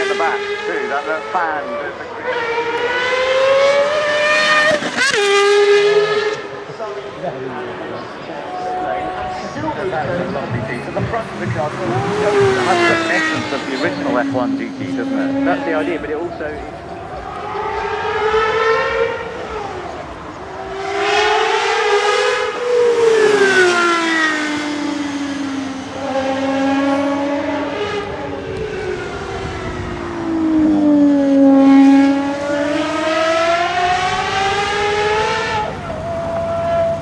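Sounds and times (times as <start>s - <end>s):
car engine revving hard: 2.0s - 37.0s.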